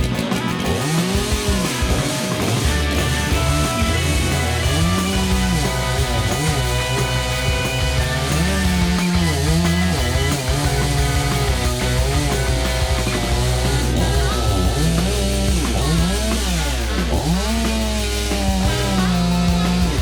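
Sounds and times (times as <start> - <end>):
chainsaw running: 0.0 - 20.0
rock music with electric guitar: 0.0 - 20.0.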